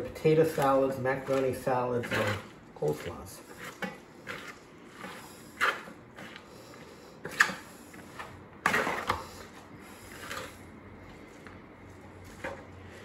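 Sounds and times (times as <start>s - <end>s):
spoon tossing cabbage in bowl: 0.0s - 13.0s.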